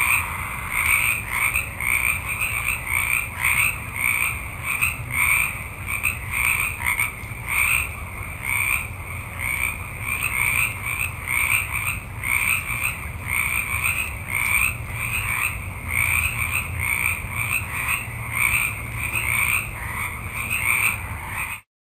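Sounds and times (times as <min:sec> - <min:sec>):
frogs croaking: 0:00.0 - 0:21.7.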